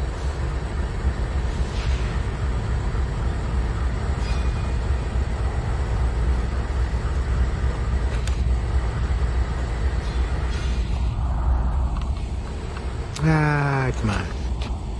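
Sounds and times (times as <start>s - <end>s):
diesel locomotives rumbling: 0.0s - 14.9s.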